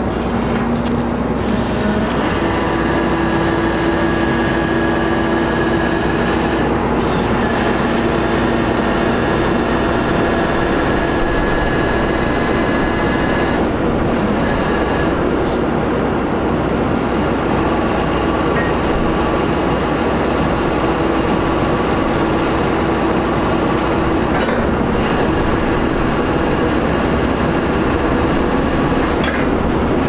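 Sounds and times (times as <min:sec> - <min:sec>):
hydraulic machinery drone with whine: 0:00.0 - 0:30.0.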